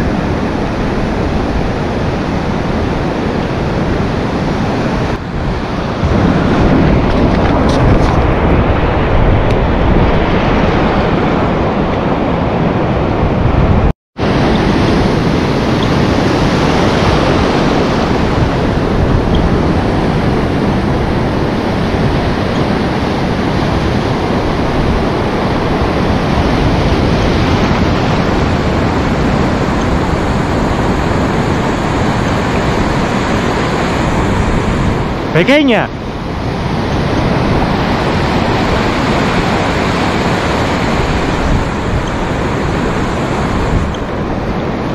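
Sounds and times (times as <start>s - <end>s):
surf breaking and washing on sand: 0.0s - 44.9s.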